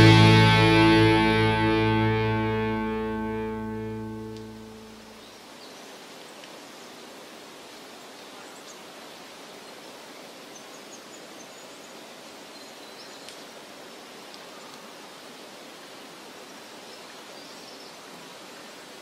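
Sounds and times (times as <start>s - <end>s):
outdoor ambient hiss: 0.0s - 19.0s.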